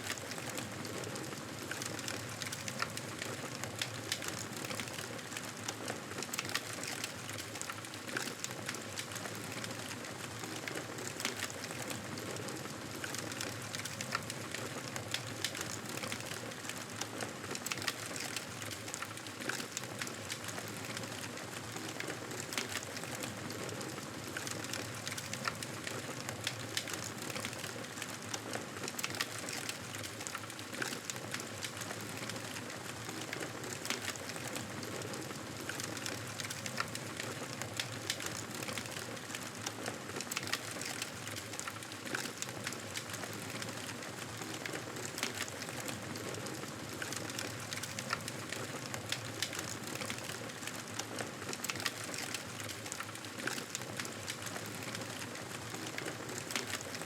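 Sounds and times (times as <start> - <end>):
burning wood crackling and popping: 0.0 - 57.0.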